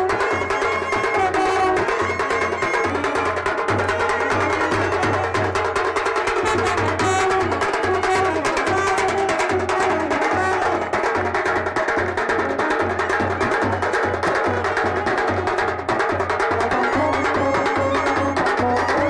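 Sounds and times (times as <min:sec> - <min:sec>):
fast drums and percussion: 0:00.0 - 0:19.0.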